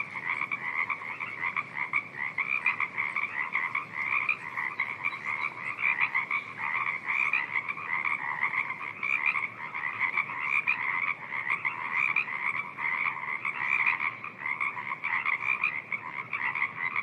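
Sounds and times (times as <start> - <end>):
chorus of frogs calling: 0.0 - 17.0.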